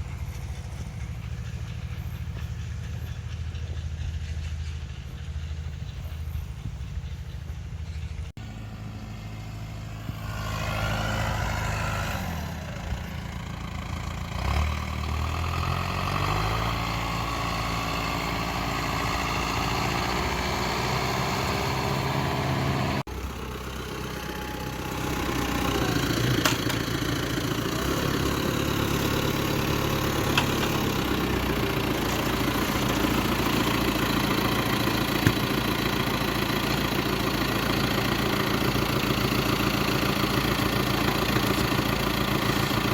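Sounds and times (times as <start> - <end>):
farm machine engine running: 0.0 - 42.9.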